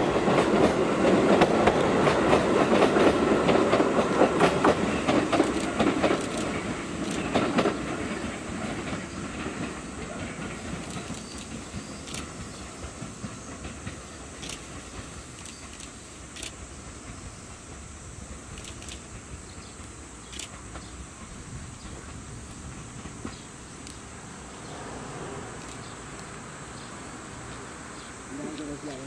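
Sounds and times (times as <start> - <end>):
train wheels clicking over rail joints: 0.0 - 24.8, 25.4 - 29.0.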